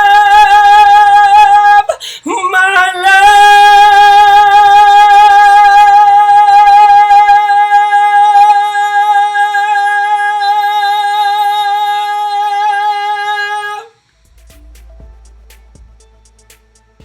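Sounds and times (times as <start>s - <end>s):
person singing with vibrato: 0.0s - 14.1s.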